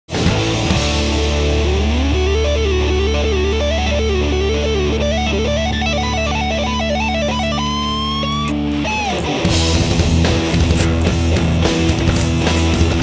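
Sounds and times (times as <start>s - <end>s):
lead electric guitar melody: 0.1s - 13.0s.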